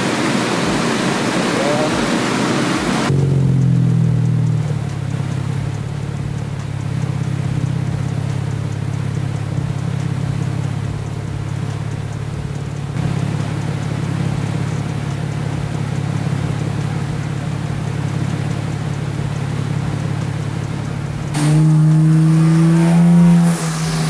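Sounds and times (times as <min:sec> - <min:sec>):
car engine idling: 0:00.0 - 0:24.0
rushing noise: 0:00.0 - 0:24.0.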